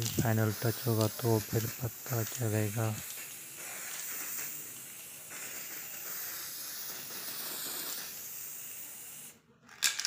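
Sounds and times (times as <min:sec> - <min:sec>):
spray paint can hissing: 0:00.0 - 0:09.9.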